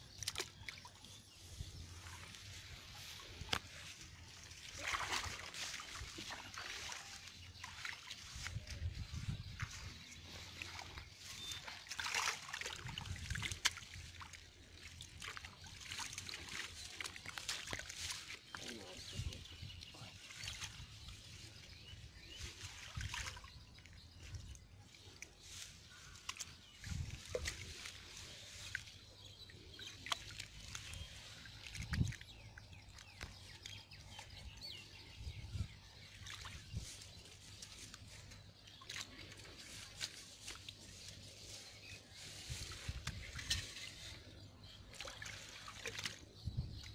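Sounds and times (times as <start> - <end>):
water sloshing and splashing: 0.0 - 46.9
pond weed rustled in a net: 1.3 - 19.4, 20.2 - 23.5, 24.2 - 32.1, 36.1 - 46.4.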